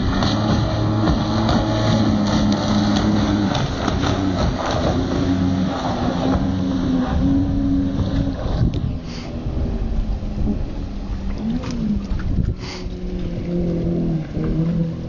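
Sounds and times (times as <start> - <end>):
outboard motor running at speed: 0.0 - 15.0
wind and water rush: 0.0 - 15.0.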